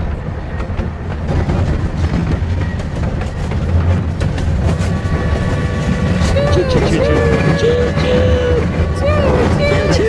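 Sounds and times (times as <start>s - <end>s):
train rumbling on track: 0.0s - 10.0s
wheels clacking on rails: 0.0s - 10.0s.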